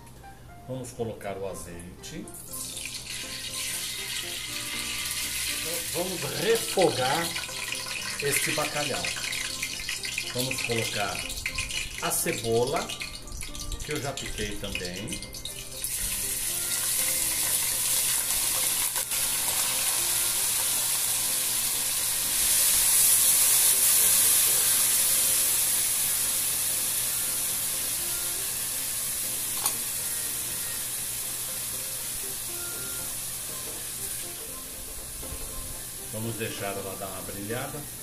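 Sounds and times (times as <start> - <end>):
onions sizzling in oil: 2.4 - 38.0.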